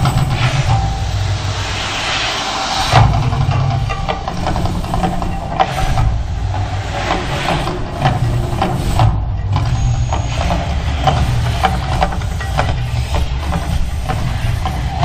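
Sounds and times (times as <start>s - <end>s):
deep rumble: 0.0s - 15.0s
hissing surges: 0.0s - 15.0s.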